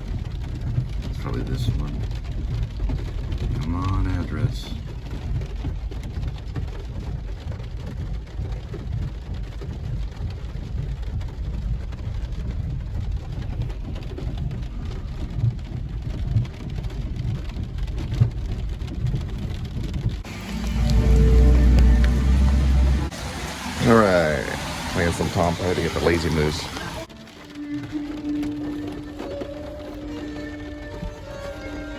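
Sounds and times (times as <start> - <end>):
car cabin road noise: 0.0 - 31.9.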